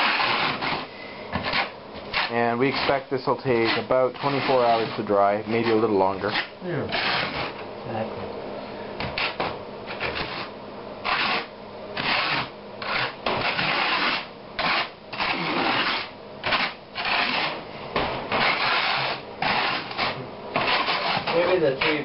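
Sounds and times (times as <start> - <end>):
trowel scraping mortar: 0.0 - 7.6, 9.0 - 17.6, 18.3 - 22.0.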